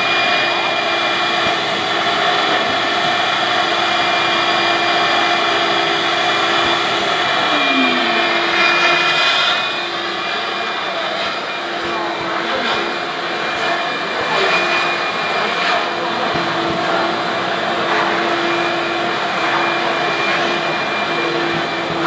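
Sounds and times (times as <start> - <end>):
industrial vacuum whining: 0.0 - 22.0.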